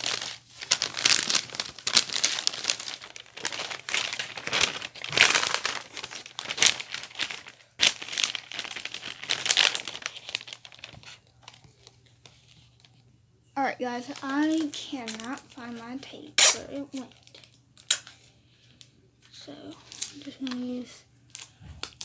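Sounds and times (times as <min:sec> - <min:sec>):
wrapping paper crinkling: 0:00.0 - 0:13.0, 0:13.9 - 0:22.0.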